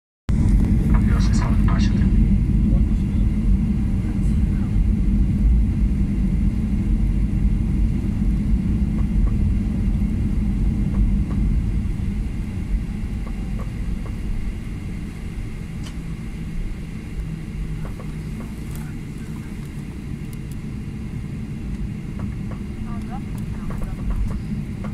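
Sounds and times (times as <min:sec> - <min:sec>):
airplane taxiing rumble: 0:00.3 - 0:24.9
faint engine whine: 0:00.3 - 0:24.9.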